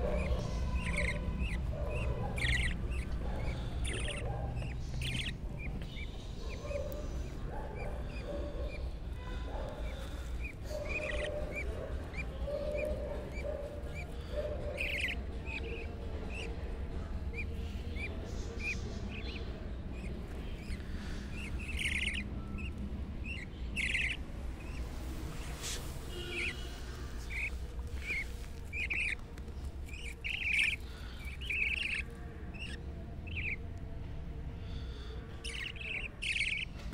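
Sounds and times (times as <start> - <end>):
baby budgerigars chirping: 0.0 - 36.9.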